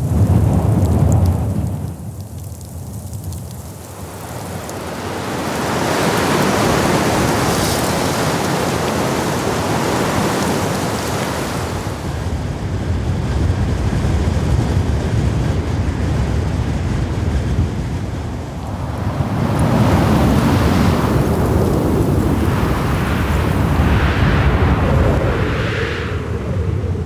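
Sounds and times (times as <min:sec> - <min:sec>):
blizzard wind rushing: 0:00.0 - 0:27.0
wind buffeting microphone: 0:00.0 - 0:27.0.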